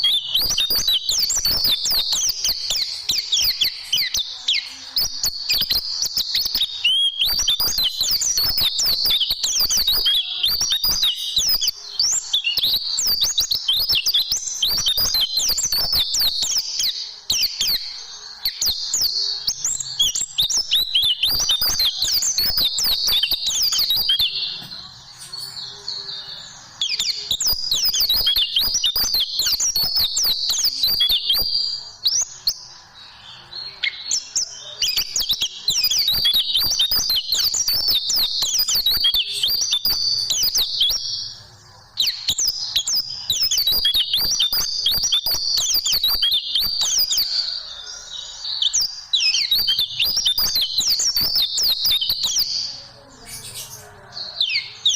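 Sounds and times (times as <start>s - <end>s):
bird twittering song: 0.0s - 54.9s.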